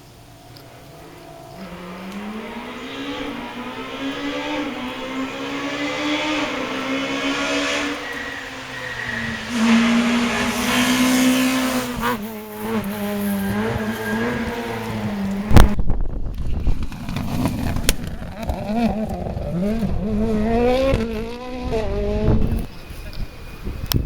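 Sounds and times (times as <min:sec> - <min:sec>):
rally car engine revving: 0:00.0 - 0:15.8, 0:17.0 - 0:22.8.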